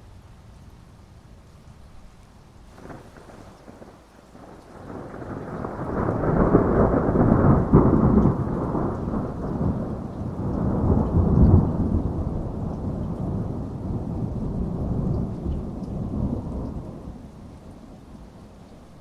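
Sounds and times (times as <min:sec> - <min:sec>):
heavy rain: 0:00.0 - 0:19.0
rolling thunder rumble: 0:02.7 - 0:19.0.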